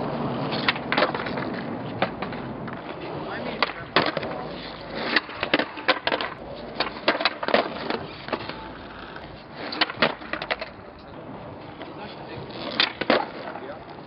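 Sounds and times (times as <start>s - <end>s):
skateboard wheels rolling on concrete: 0.0s - 14.0s
skateboard wooden clacks: 0.1s - 11.0s, 11.6s - 14.0s.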